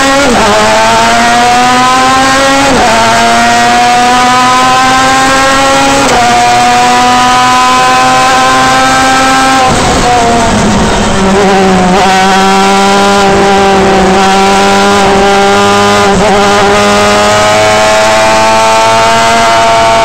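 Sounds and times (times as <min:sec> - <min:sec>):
race car rotary engine: 0:00.0 - 0:20.0.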